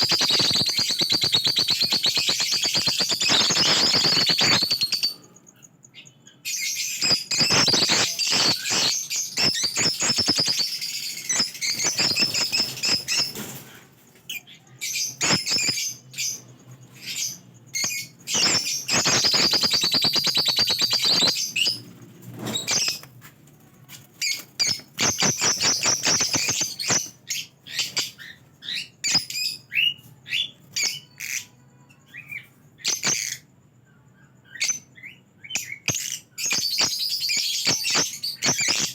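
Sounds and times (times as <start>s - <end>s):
lovebirds chirping and chattering: 0.0s - 38.9s.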